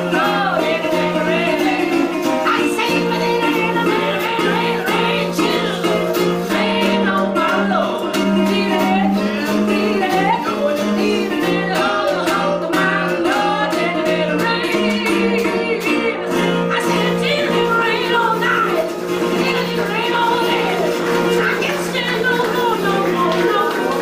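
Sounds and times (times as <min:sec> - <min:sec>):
person singing: 0:00.0 - 0:24.0
strummed acoustic guitar: 0:00.0 - 0:24.0.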